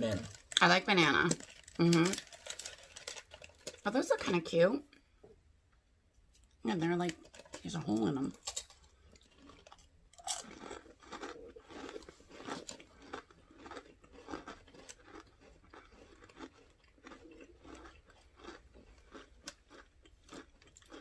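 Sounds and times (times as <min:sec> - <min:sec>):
crunching and chewing crispy rolls: 0:00.0 - 0:04.3, 0:06.9 - 0:21.0.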